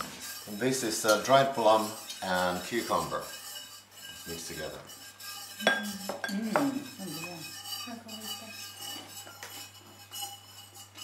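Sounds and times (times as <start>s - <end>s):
bowls knocking: 0.0s - 11.0s
glass bowl clinking: 0.0s - 11.0s.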